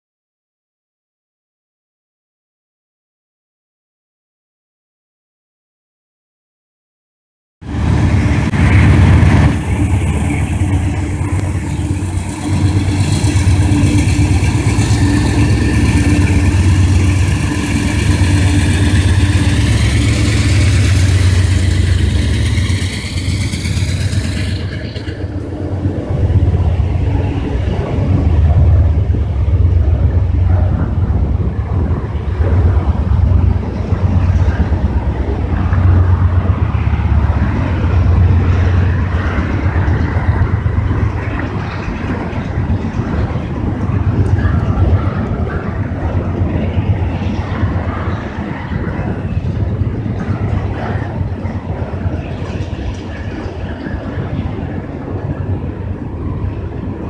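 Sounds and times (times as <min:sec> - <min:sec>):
diesel locomotive engine drone: 0:07.6 - 0:57.0
freight cars rumbling on rails: 0:07.6 - 0:57.0.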